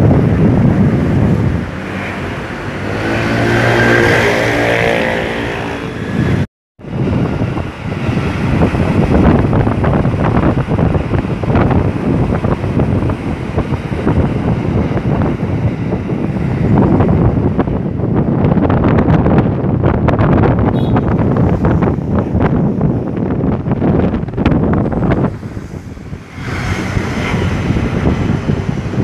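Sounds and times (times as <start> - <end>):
wind on microphone: 0.0 - 29.0.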